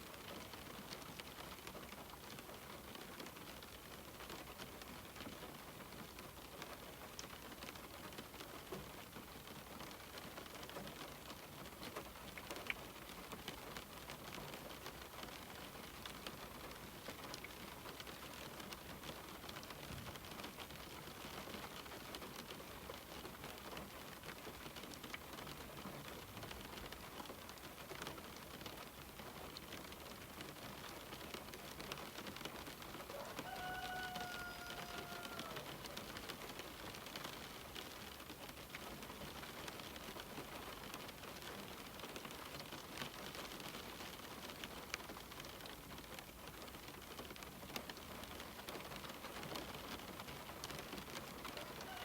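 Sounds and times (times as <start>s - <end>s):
rain on a window: 0.0s - 52.0s.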